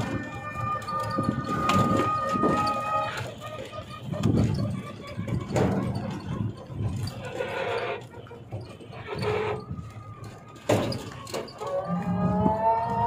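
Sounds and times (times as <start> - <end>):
vehicle rumbling and rattling: 0.0 - 13.0.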